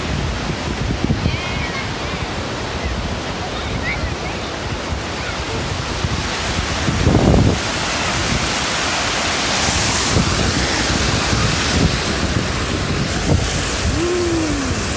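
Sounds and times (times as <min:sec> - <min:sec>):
ocean surf washing ashore: 0:00.0 - 0:14.9
wind buffeting microphone: 0:00.0 - 0:14.9.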